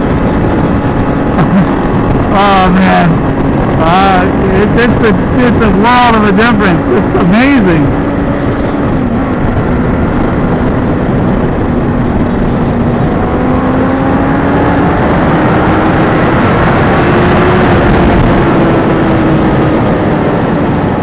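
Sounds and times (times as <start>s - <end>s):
loud wind rush: 0.0s - 21.0s
motorcycle engine cruising: 0.0s - 21.0s.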